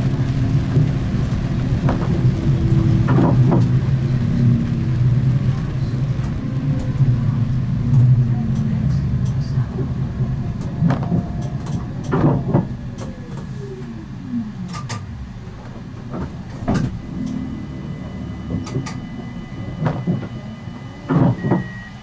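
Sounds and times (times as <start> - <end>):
low running rumble: 0.0 - 22.0
tram electric drive whining down: 0.0 - 22.0.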